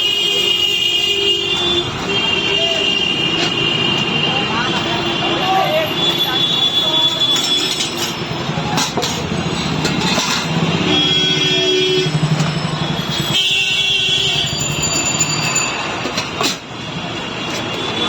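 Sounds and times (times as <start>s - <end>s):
bustle of people: 0.0s - 18.0s
traffic: 0.0s - 18.0s.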